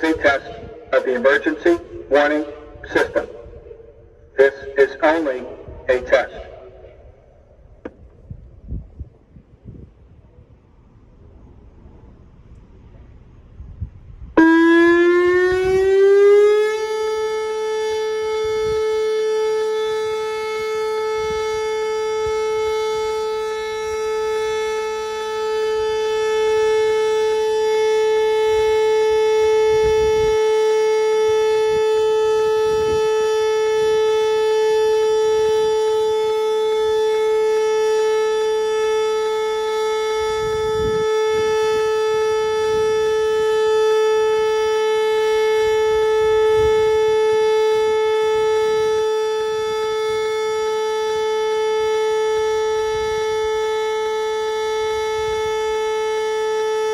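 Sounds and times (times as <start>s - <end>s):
warning siren: 0.0s - 56.9s.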